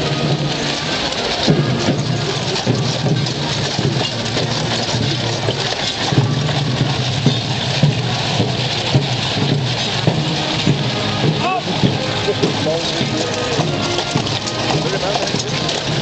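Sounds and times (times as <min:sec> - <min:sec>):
horse hooves on gravel: 0:00.0 - 0:16.0.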